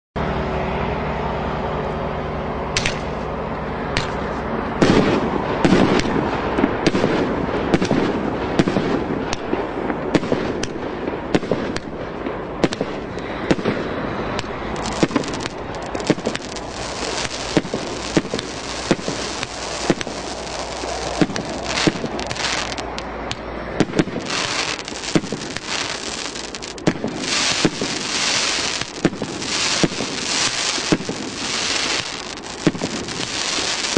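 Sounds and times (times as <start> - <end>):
fireworks crackle: 4.0 - 33.9
fireworks sharp reports: 4.0 - 33.9.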